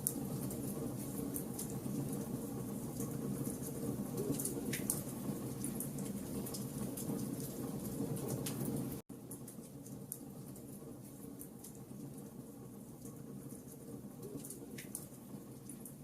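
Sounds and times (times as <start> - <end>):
fire crackling and popping: 0.0 - 15.9.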